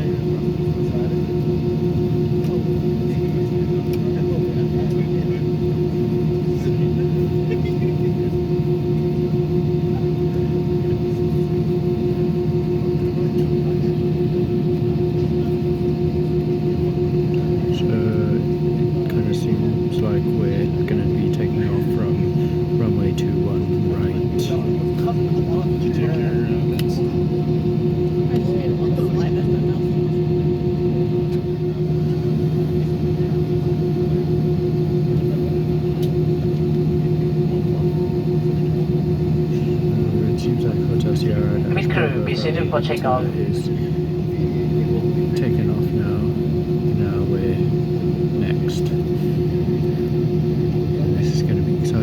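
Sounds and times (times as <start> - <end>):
aircraft cabin engine drone: 0.0 - 52.0.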